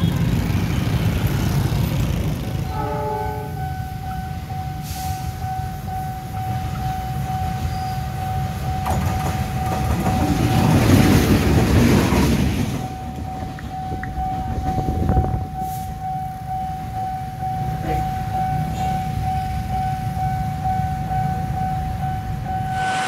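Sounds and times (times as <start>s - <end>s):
diesel locomotive engine: 0.0s - 23.0s.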